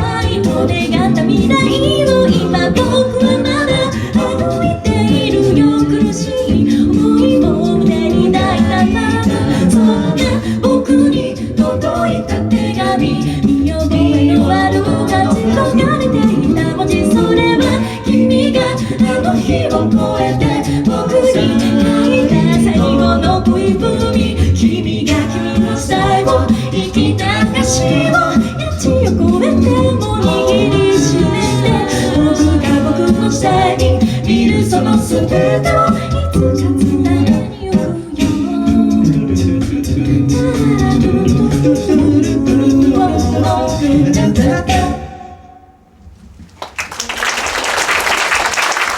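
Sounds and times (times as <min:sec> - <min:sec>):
a cappella pop singing: 0:00.0 - 0:46.0.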